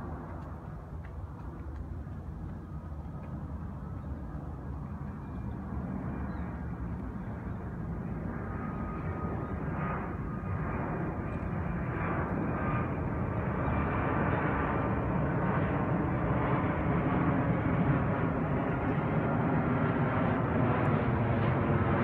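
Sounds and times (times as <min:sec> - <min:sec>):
faint jet engine whine: 0:00.0 - 0:22.0
jet airliner rumble: 0:00.0 - 0:22.0.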